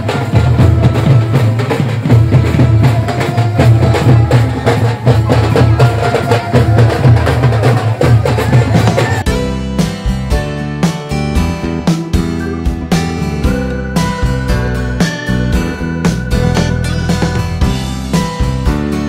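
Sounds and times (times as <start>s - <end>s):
drum-heavy music with bass: 0.0s - 19.0s.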